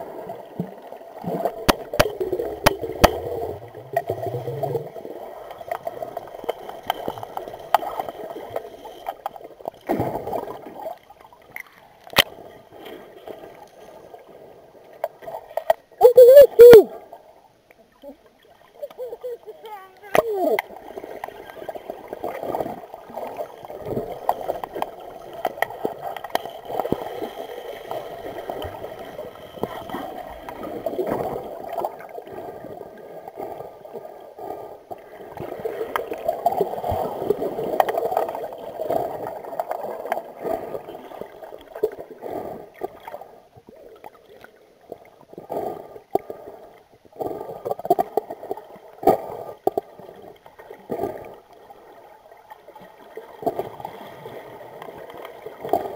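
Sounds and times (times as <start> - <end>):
water churning underwater: 0.0 - 55.9.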